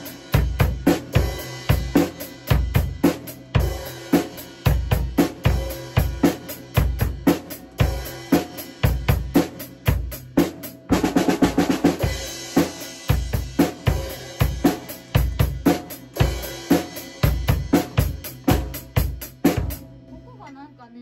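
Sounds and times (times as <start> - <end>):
drum kit beat: 0.0 - 20.7.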